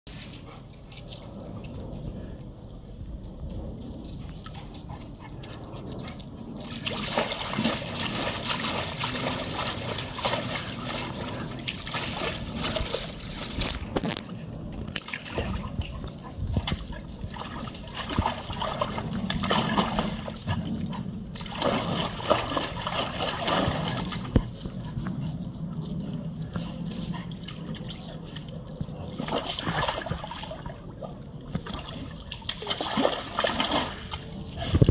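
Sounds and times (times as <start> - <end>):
dog splashing water: 4.4 - 14.1, 14.9 - 34.9.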